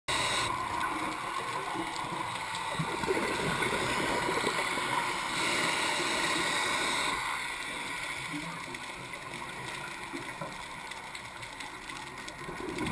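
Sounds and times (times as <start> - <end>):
muffled underwater hiss: 0.1 - 12.9
underwater bubbling: 0.1 - 12.9.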